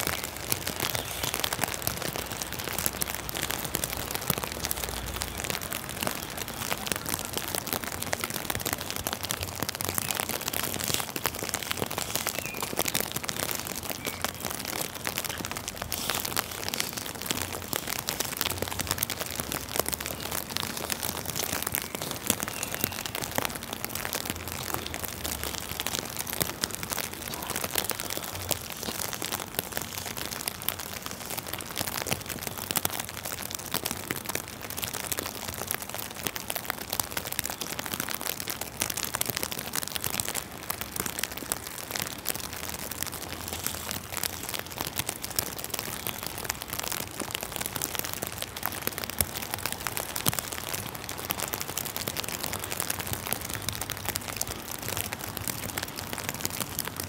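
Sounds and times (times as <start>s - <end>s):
rain and wet snow falling: 0.0s - 57.0s.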